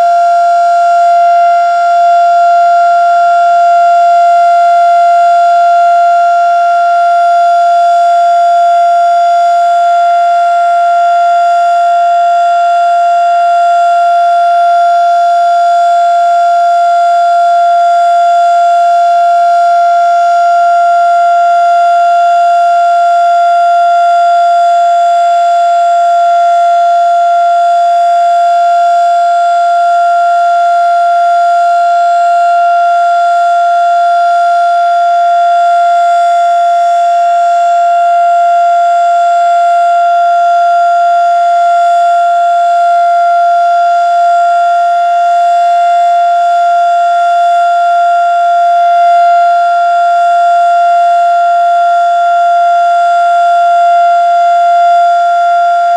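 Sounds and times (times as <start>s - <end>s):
tornado siren steady tone: 0.0s - 55.9s.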